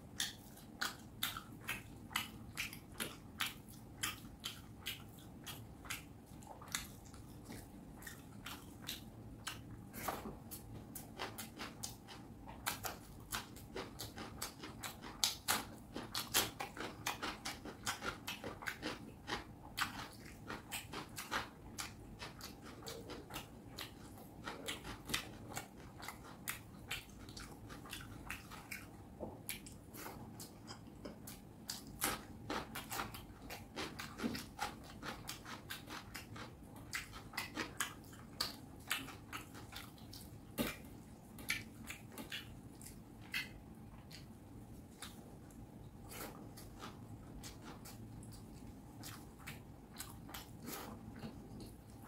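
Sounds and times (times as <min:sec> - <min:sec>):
person chewing: 0:00.0 - 0:52.0.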